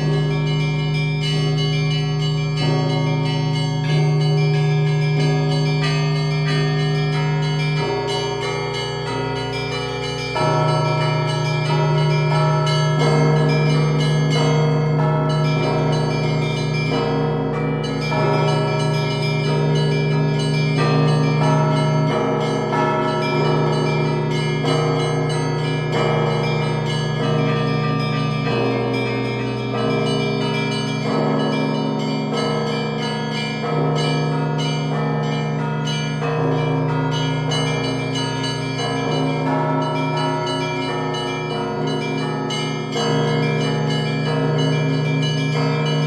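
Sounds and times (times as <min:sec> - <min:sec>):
church bells pealing: 0:00.0 - 0:46.0.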